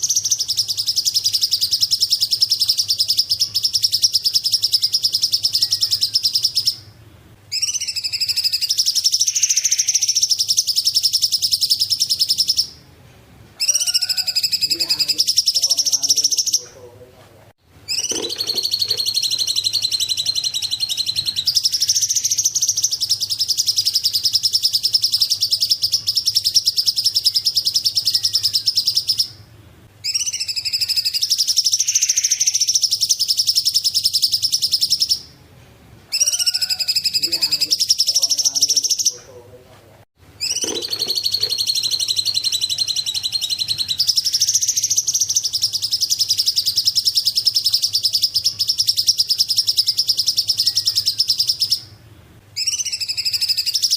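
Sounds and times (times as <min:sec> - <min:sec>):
bird high-pitched trills: 0:00.0 - 0:12.8, 0:13.6 - 0:16.8, 0:17.9 - 0:35.3, 0:36.1 - 0:39.3, 0:40.4 - 0:52.0, 0:52.6 - 0:53.9.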